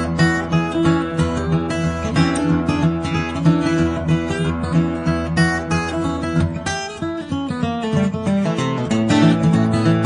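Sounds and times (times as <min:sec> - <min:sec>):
guitar music picked and strummed: 0:00.0 - 0:10.0.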